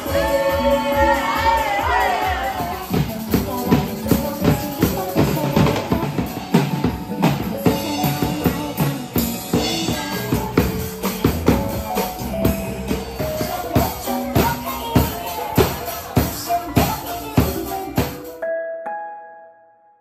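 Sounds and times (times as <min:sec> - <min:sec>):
drum kit beat: 0:00.0 - 0:18.4
held instrumental notes: 0:00.0 - 0:20.0.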